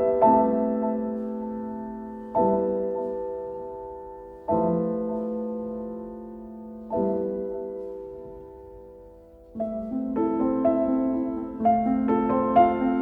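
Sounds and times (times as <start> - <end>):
gentle solo piano chords: 0.0 - 13.0.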